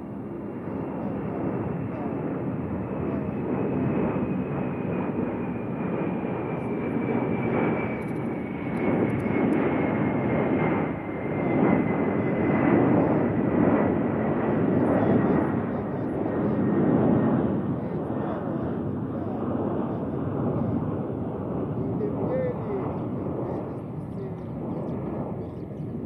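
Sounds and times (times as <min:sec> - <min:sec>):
airplane engine noise: 0:00.0 - 0:26.0.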